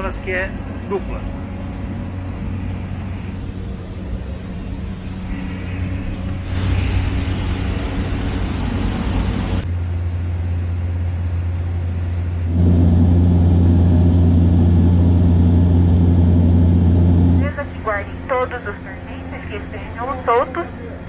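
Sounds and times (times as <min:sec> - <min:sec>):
turboprop engine hum in cabin: 0:00.0 - 0:21.0.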